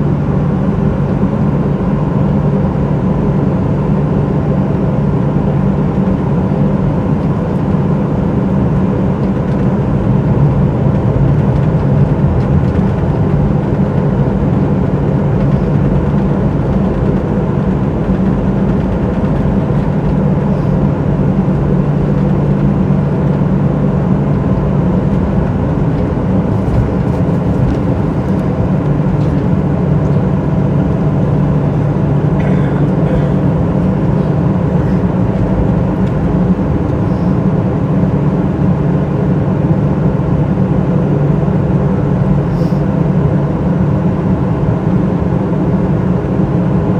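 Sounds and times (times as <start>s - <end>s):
jet engine drone inside cabin: 0.0s - 46.9s.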